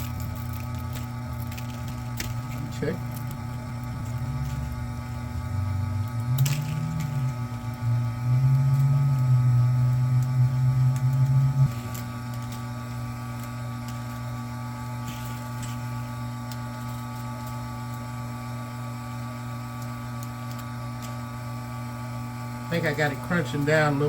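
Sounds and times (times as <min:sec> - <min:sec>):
wire stripping machine motor: 0:00.0 - 0:24.0.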